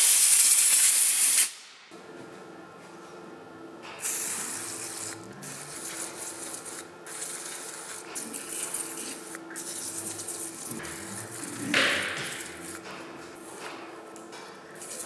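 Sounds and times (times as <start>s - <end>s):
low machine hum: 1.9s - 15.0s.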